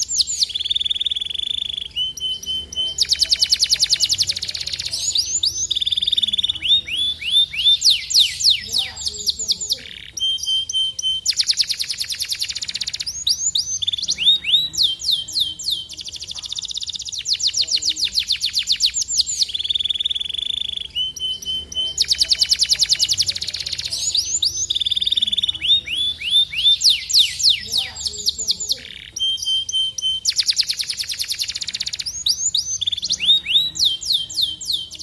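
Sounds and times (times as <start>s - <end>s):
canary singing: 0.0s - 35.0s.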